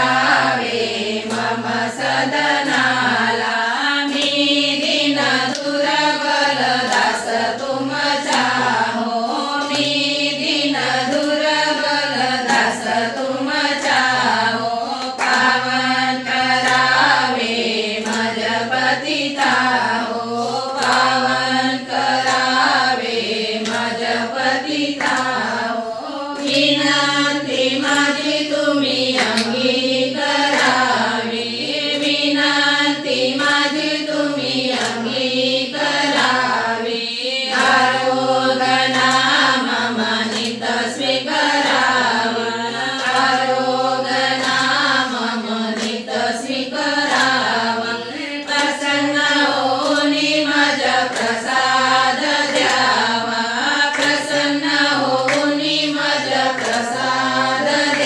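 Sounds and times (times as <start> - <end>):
hands clapping: 0.0 - 58.0
women singing a hymn: 0.0 - 58.0.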